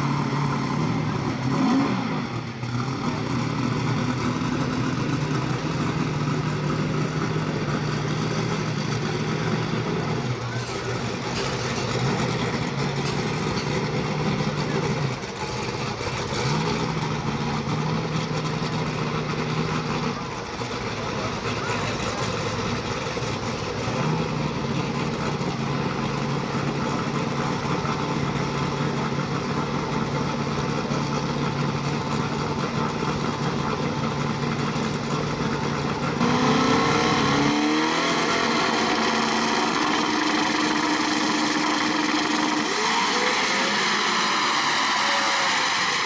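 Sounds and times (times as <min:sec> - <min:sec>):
car engine idling: 0:00.0 - 0:46.0
car engine revving: 0:00.0 - 0:46.0.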